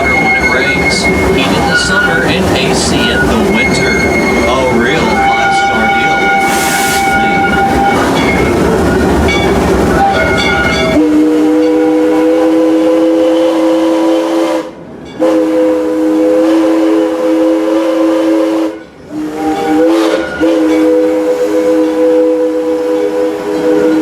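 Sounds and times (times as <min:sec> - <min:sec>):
steam locomotive chime whistle: 0:00.0 - 0:24.0.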